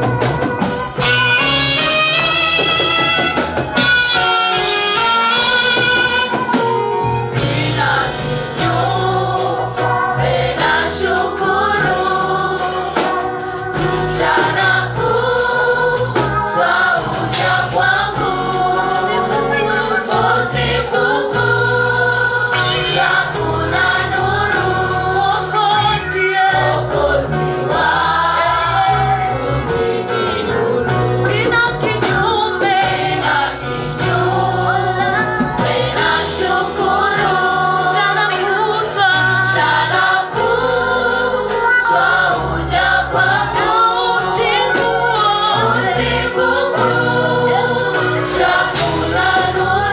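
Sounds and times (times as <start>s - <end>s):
band bass and drums: 0.0s - 49.9s
choir singing gospel song: 0.0s - 49.9s.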